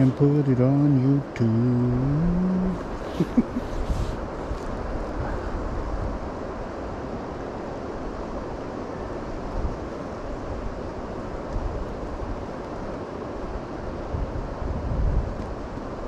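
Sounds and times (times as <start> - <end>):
river rushing: 0.0 - 16.0
wind buffeting microphone: 0.0 - 16.0.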